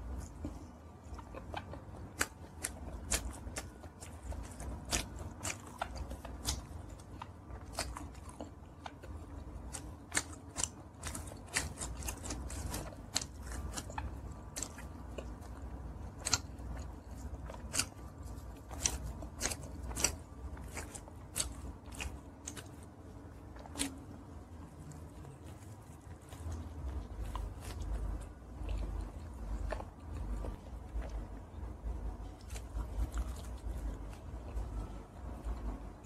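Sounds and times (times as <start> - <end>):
chewing crunches and mouth clicks: 0.0 - 36.0
low steady rumble: 0.0 - 36.0.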